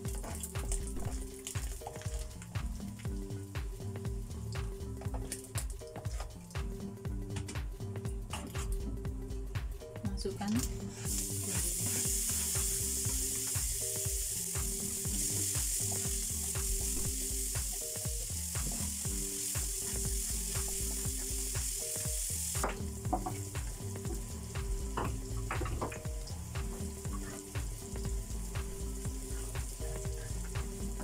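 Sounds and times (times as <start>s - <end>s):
vegetables sizzling in hot oil: 0.0s - 4.9s, 11.0s - 31.0s.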